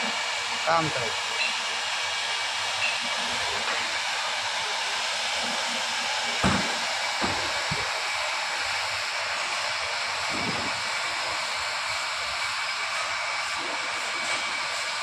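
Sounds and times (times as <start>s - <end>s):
hot-air gun hissing: 0.0s - 15.0s.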